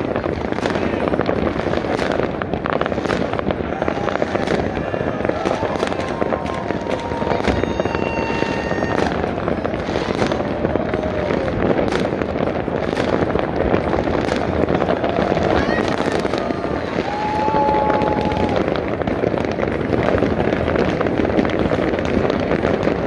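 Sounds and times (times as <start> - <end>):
fireworks and firecrackers crackling: 0.0 - 23.0
whistling fireworks: 0.0 - 23.0.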